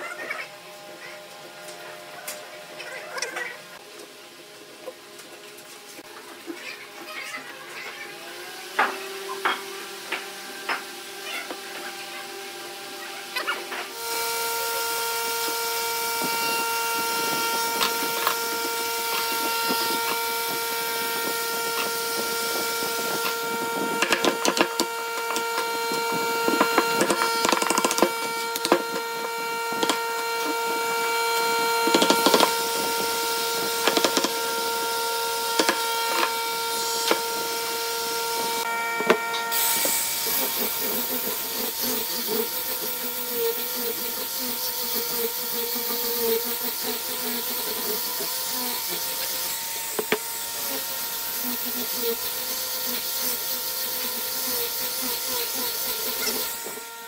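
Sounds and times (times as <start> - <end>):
steady high-pitched hum: 0.0 - 53.5.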